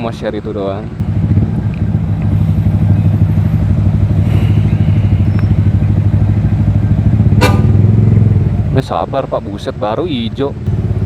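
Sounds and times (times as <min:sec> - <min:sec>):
motorcycle engine idling: 0:00.9 - 0:11.0.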